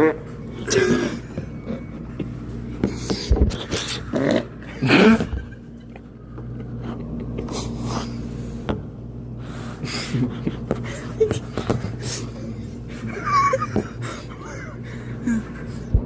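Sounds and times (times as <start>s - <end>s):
laundry machines humming: 0.0s - 16.0s.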